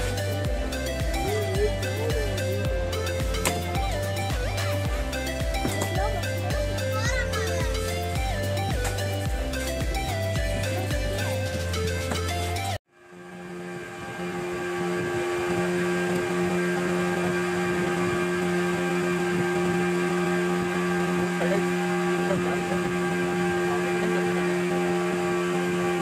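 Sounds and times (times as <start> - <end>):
ferry engine droning: 0.0 - 26.0.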